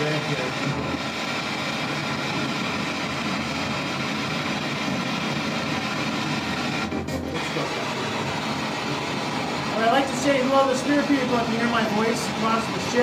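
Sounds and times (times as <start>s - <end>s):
radio static scanning: 0.0s - 13.0s.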